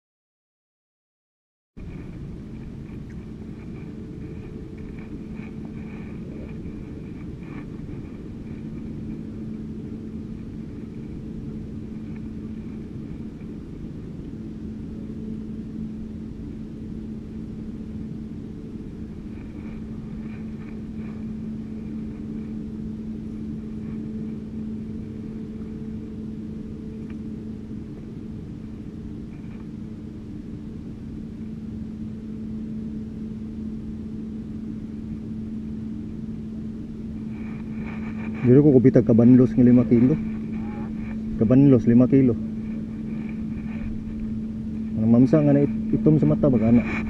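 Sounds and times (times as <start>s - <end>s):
boat engine droning: 1.8s - 47.0s.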